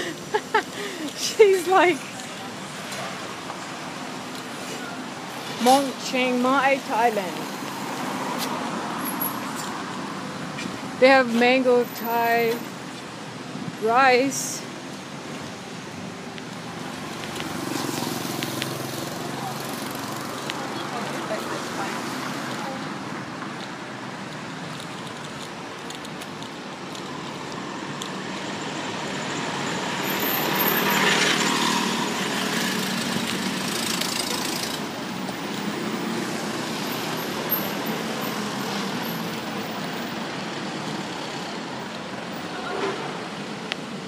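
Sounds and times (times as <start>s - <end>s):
passing vehicles: 0.0s - 44.0s.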